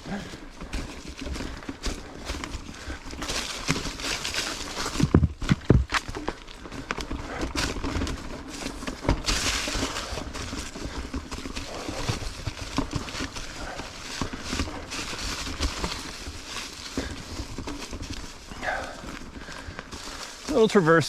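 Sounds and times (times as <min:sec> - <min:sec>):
bike tires knocking on rocks: 0:00.0 - 0:20.6.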